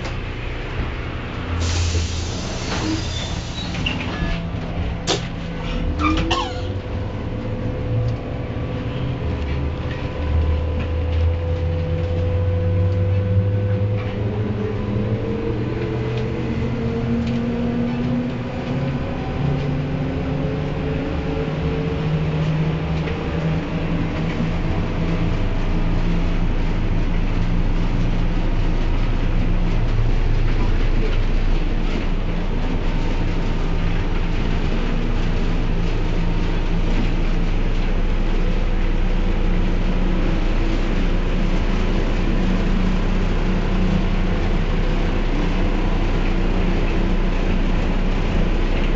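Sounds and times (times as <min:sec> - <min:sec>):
trolleybus hum and rumble: 0:00.0 - 0:48.9.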